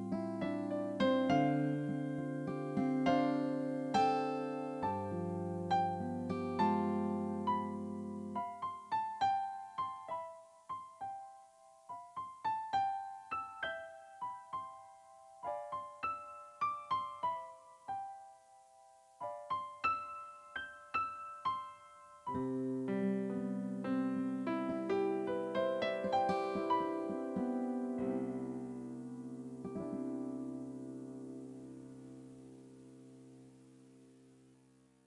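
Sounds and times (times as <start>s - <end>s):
slow piano melody: 0.0s - 35.0s.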